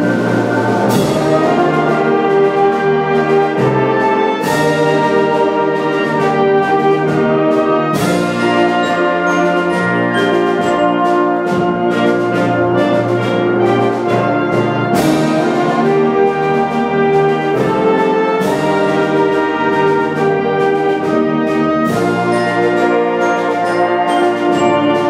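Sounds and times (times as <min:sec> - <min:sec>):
percussion strikes: 0:00.0 - 0:25.0
wind band playing chords: 0:00.0 - 0:25.0.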